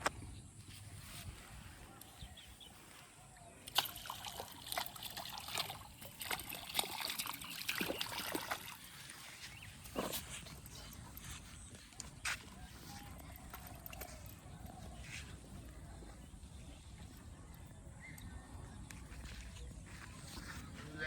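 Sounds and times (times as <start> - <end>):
muddy water sloshing: 3.2 - 20.8.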